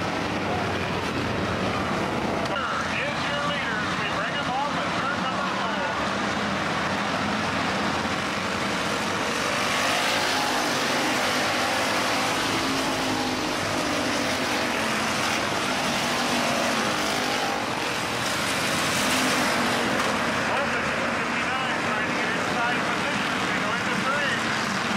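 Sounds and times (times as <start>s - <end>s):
race car engines roaring: 0.0s - 24.9s.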